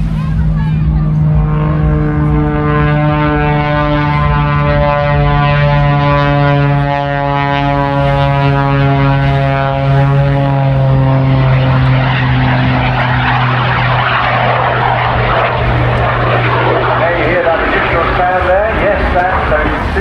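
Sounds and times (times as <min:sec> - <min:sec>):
propeller aircraft engine drone: 0:00.0 - 0:20.0.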